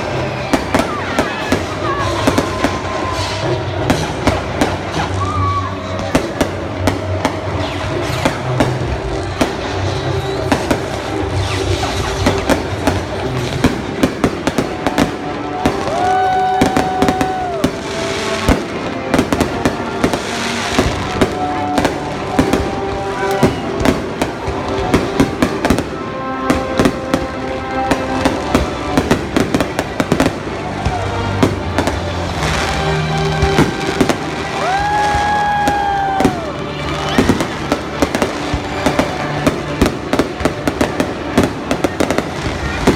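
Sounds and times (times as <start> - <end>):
fireworks bangs and crackles: 0.0 - 42.9
music playing: 0.0 - 42.9.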